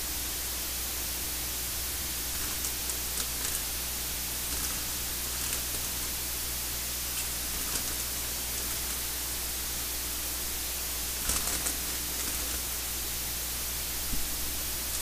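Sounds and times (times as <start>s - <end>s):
low electrical hum: 0.0s - 15.0s
recording hiss: 0.0s - 15.0s.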